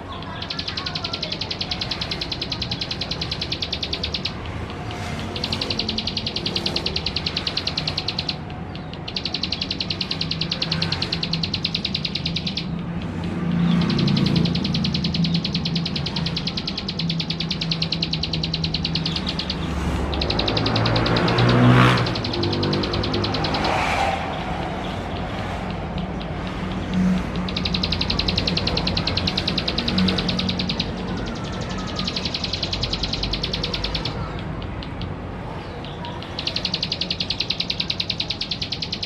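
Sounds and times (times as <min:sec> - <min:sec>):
prinia singing rapid trills: 0:00.0 - 0:39.0.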